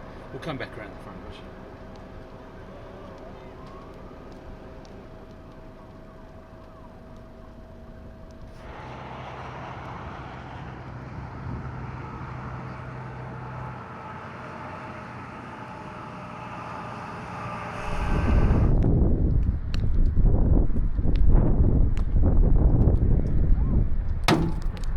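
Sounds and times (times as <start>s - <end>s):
loud uneven low rumble: 0.0s - 24.9s
vehicle engine and tyre noise: 0.0s - 24.9s.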